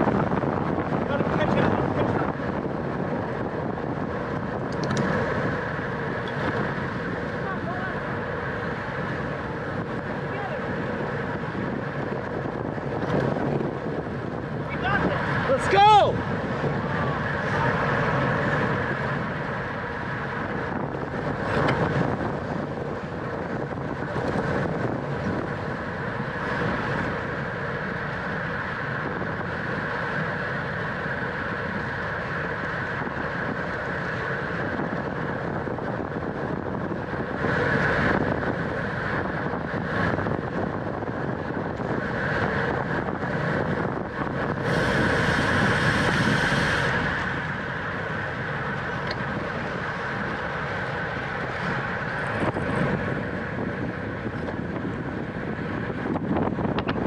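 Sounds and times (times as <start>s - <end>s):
bicycle riding noise: 0.0s - 57.0s
wind rushing over microphone: 0.0s - 57.0s.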